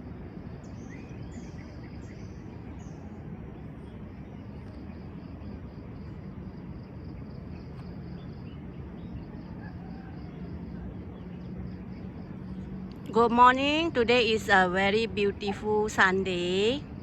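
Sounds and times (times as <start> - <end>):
insect chirping: 0.0 - 17.0
low outdoor rumble: 0.0 - 17.0.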